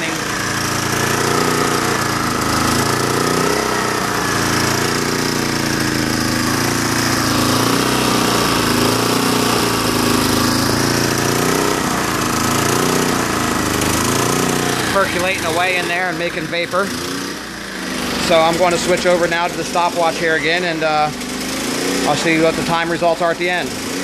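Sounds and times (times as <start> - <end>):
generator engine running: 0.0 - 24.0.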